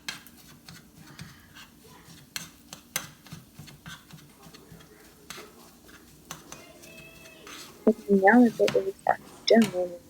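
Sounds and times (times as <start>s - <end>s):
utensil tapping against pan: 0.0s - 9.9s.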